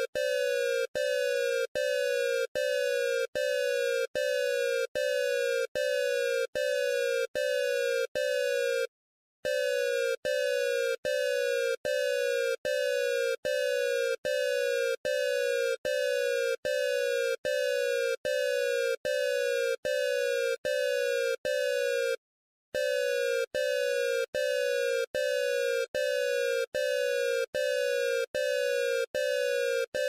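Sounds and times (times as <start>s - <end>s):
harsh buzzy alarm pulses: 0.0s - 8.9s, 9.5s - 22.2s, 22.8s - 30.0s.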